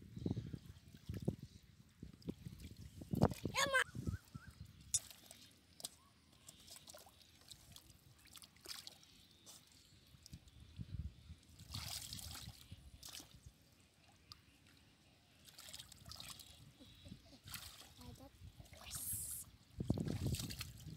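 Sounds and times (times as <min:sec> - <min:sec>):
muddy water sloshing and dripping: 0:00.7 - 0:20.9.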